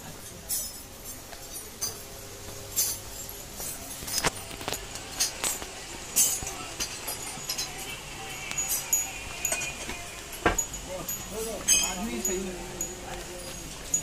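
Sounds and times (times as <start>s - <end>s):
low background hum: 0.0s - 14.0s
metallic clinks and clatter: 0.4s - 14.0s.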